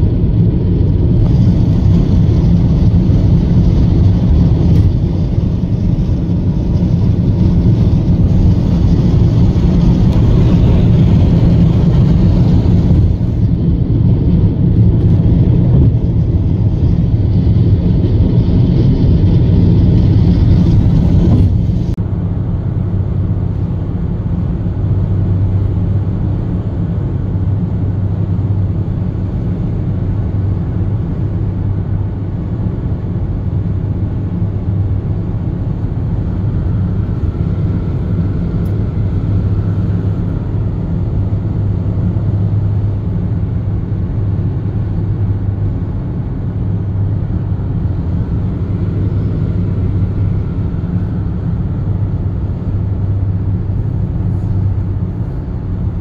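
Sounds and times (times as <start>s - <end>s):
car road and wind noise: 0.0s - 56.0s.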